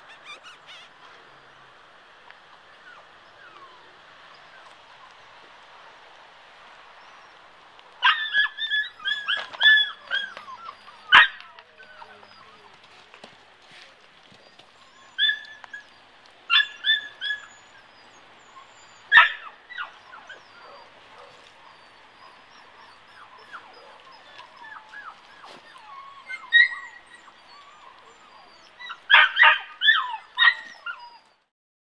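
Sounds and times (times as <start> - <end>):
puppies yipping and barking: 0.0 - 1.4, 2.4 - 5.2, 8.0 - 12.9, 14.2 - 31.5.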